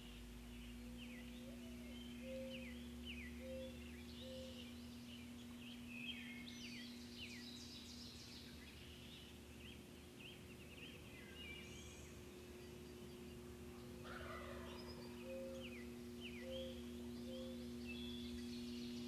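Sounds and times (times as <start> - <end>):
low steady hum: 0.0 - 19.0
songbirds chirping: 0.0 - 19.0.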